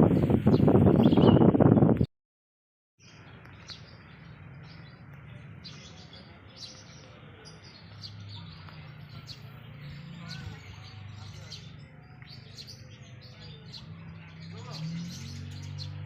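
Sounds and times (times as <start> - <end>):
small birds chirping: 0.0 - 2.0, 3.0 - 16.0.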